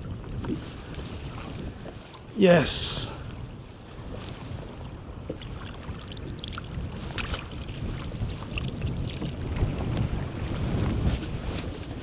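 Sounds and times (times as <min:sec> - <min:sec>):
water splashing against kayak: 0:00.0 - 0:12.0
wind buffeting microphone: 0:00.0 - 0:12.0.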